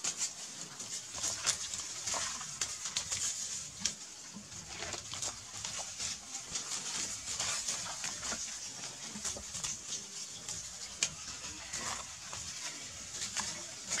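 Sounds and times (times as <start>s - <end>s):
dry leaves rustling underfoot: 0.0s - 14.0s.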